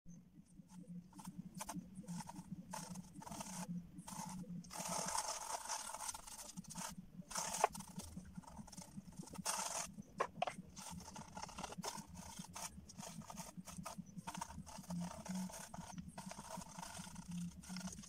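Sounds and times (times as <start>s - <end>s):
faint steady hum: 0.1s - 18.0s
paintbrush scrubbing canvas: 0.6s - 18.0s.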